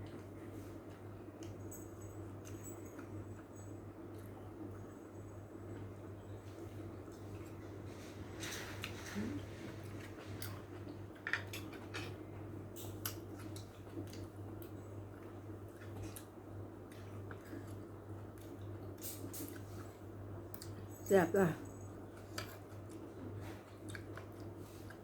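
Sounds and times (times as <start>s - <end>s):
person chewing with wet smacking: 2.4s - 4.9s, 5.7s - 20.9s, 21.9s - 25.0s.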